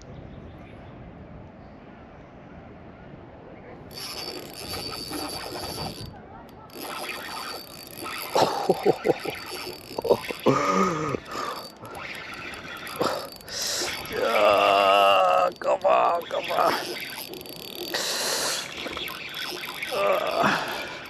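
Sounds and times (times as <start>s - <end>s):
fishing gear clicks and knocks: 3.9s - 21.0s
fishing reel ratcheting whir: 3.9s - 21.0s.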